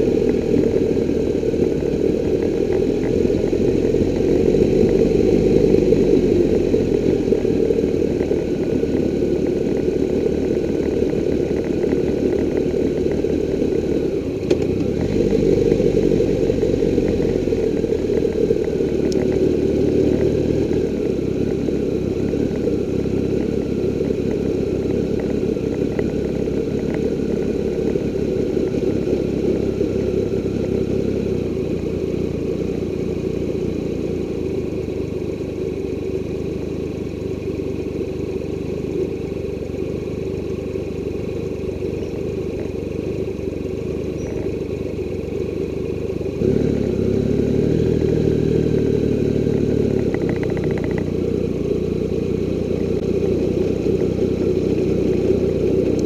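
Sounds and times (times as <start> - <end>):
motorcycle engine low rumble: 0.0 - 56.0.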